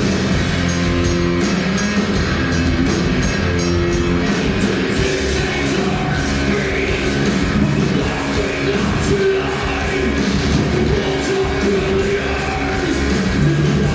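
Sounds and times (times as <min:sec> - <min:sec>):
heavy metal band playing live: 0:00.0 - 0:13.9.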